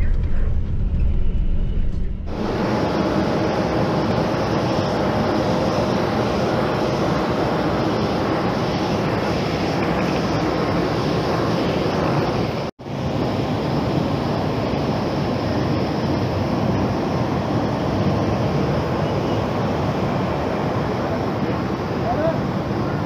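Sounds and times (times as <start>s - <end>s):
jet aircraft roar: 0.0s - 23.0s.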